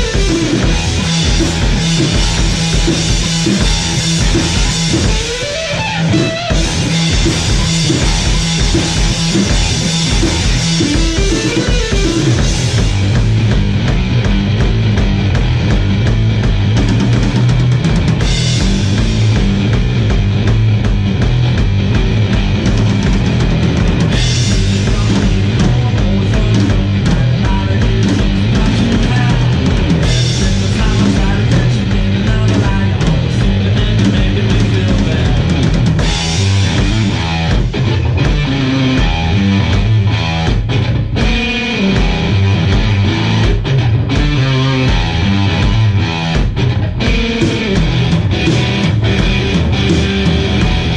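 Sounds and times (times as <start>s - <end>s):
bass guitar: 0.0s - 50.9s
drum hits: 0.0s - 50.9s
electric guitar: 0.0s - 50.9s.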